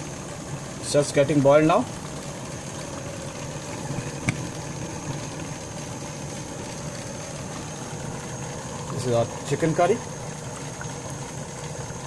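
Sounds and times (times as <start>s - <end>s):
curry boiling in a wok: 0.0s - 12.0s.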